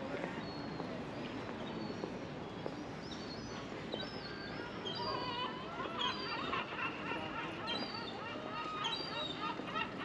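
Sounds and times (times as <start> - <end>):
street background noise: 0.0 - 10.0.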